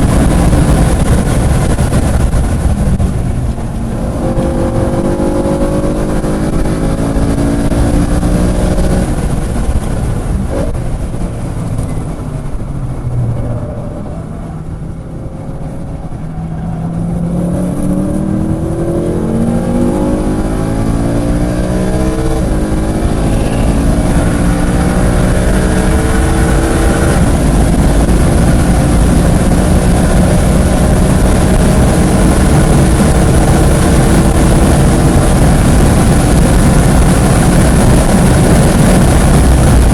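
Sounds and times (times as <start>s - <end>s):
race car engine: 0.0s - 39.9s
wind and road noise: 0.0s - 39.9s.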